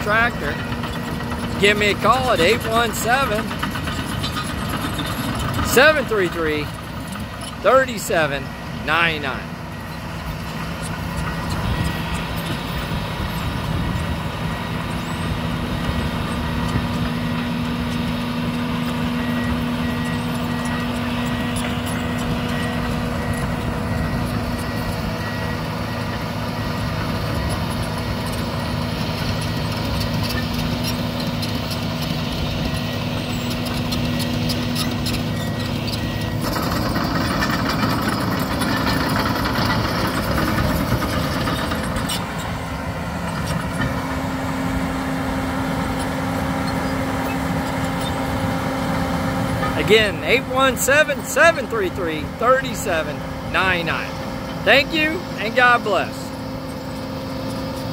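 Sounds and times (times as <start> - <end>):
dozer diesel engine running: 0.0 - 57.9.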